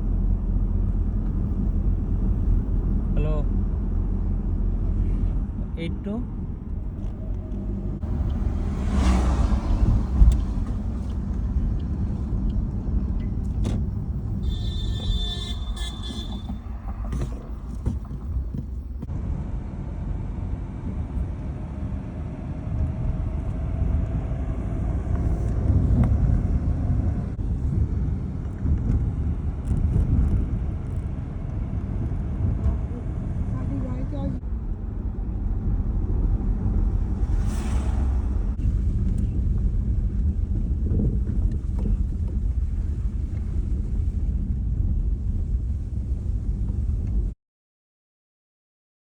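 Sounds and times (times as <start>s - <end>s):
car road rumble: 0.0s - 47.4s.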